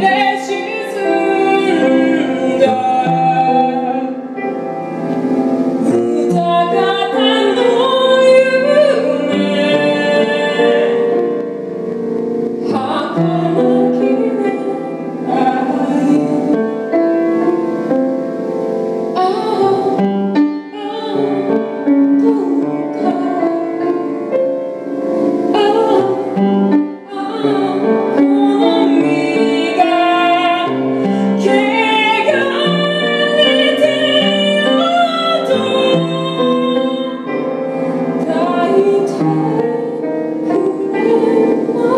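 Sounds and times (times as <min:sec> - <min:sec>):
woman singing: 0:00.0 - 0:04.7, 0:05.8 - 0:11.6, 0:12.6 - 0:17.6, 0:19.2 - 0:24.5, 0:25.5 - 0:41.9
piano accompaniment: 0:00.0 - 0:41.9.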